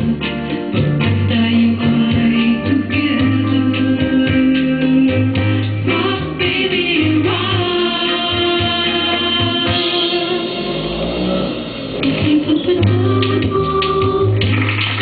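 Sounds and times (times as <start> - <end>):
band with bass and guitar: 0.0 - 15.0
woman singing into microphone: 0.0 - 15.0.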